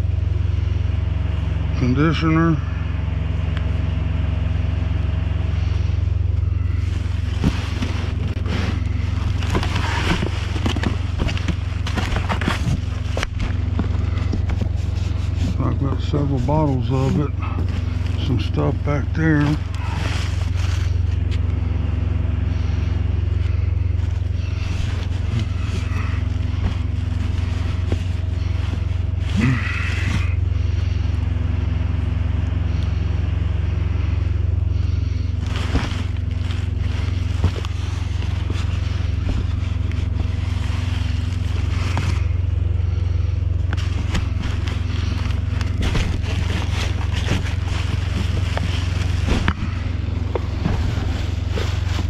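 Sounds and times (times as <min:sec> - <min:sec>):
low mechanical hum: 0:00.0 - 0:52.0
items scraping and rustling: 0:06.4 - 0:31.0, 0:34.8 - 0:52.0.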